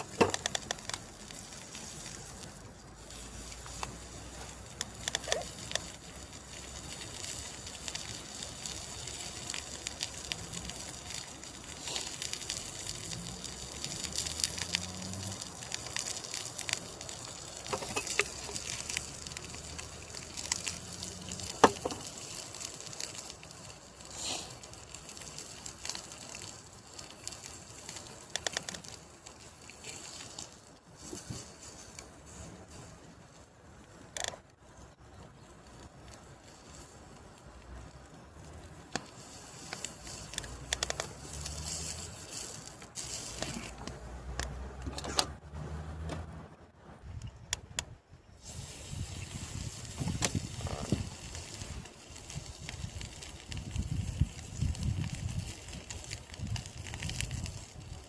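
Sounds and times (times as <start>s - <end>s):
meat sizzling on grill: 0.0s - 34.0s, 34.8s - 44.8s, 48.2s - 58.0s
campfire crackling and popping: 0.0s - 58.0s.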